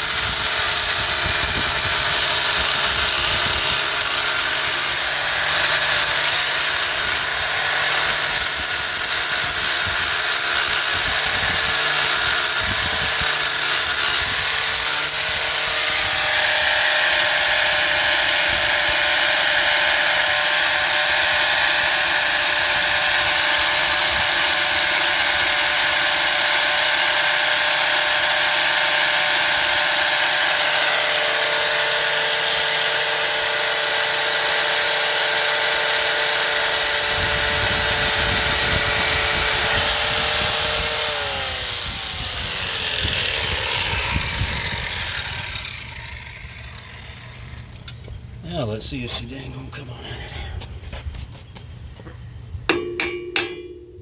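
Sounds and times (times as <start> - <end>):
power drill drilling: 0.0 - 47.9.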